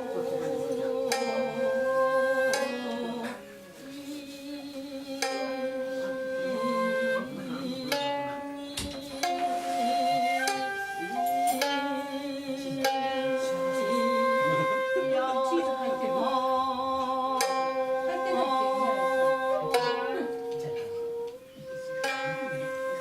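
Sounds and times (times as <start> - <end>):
plucked string notes: 0.0 - 23.0
shakuhachi long notes: 0.0 - 23.0.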